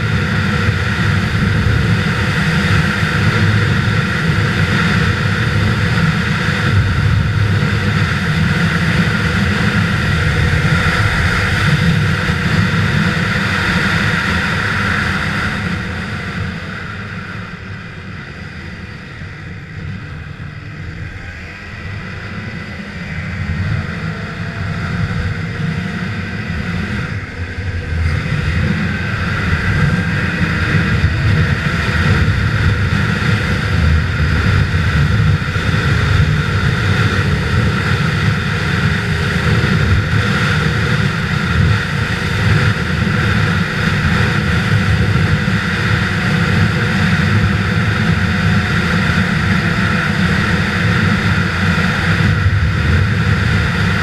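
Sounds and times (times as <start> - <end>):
snowmobile engine droning: 0.0 - 54.0.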